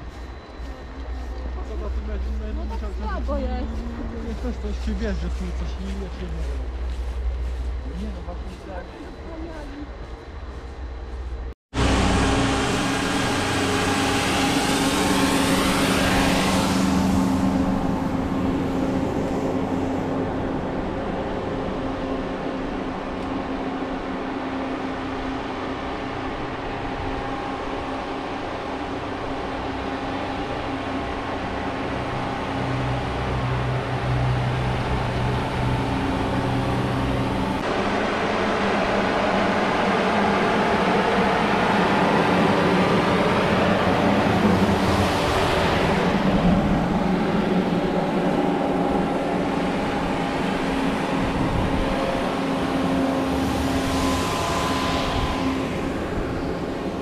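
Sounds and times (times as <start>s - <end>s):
road noise: 0.0s - 57.0s
vehicle engine hum: 0.0s - 57.0s
sweeping whoosh: 10.3s - 57.0s.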